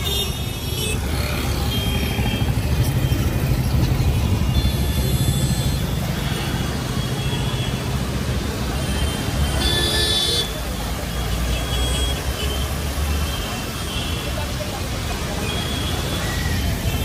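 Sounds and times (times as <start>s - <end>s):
cars passing on wet road: 0.0s - 17.0s
vehicle engines rumbling: 0.0s - 17.0s.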